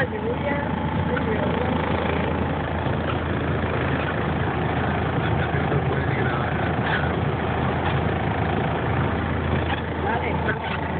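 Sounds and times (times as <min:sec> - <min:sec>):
low engine hum: 0:00.0 - 0:10.9.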